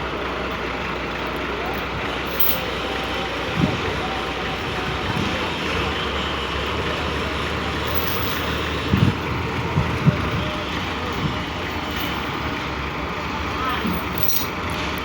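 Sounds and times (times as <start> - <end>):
roadside traffic: 0.0 - 15.0.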